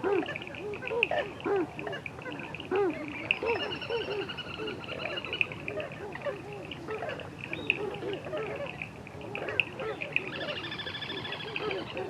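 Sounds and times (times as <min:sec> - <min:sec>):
birds calling in chorus: 0:00.0 - 0:12.0.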